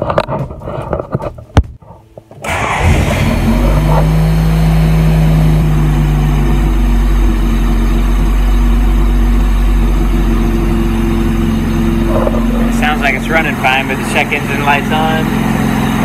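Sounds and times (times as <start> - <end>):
car engine running: 2.4 - 16.0.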